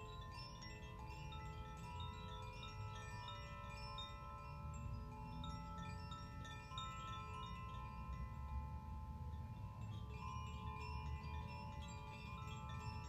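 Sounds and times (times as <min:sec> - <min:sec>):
metal chimes ringing: 0:00.0 - 0:13.0.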